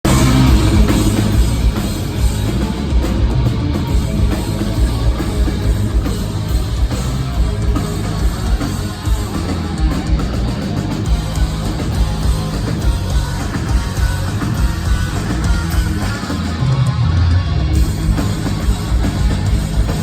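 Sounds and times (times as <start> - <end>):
rock band playing live: 0.0 - 20.0.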